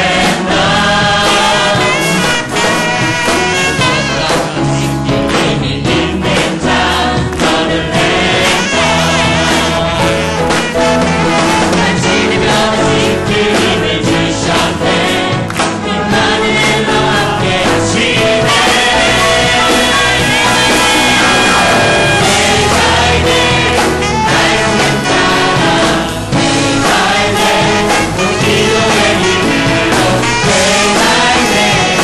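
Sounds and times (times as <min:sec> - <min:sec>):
group singing worship song: 0:00.0 - 0:32.0
instrumental backing with beat: 0:00.0 - 0:32.0.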